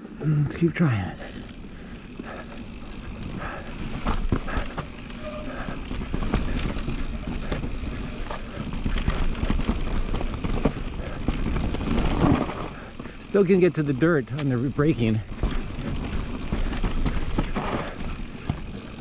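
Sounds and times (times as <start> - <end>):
bike tyres rolling over snow: 0.0 - 19.0
bike knocking and rattling: 0.1 - 19.0.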